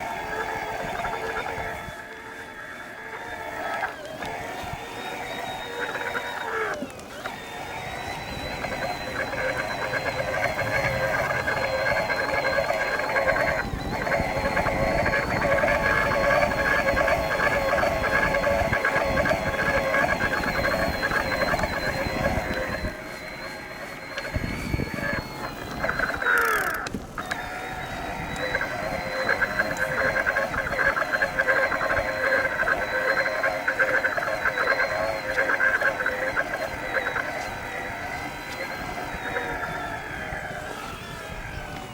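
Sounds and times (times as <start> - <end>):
electric bike motor whine: 0.0 - 41.9.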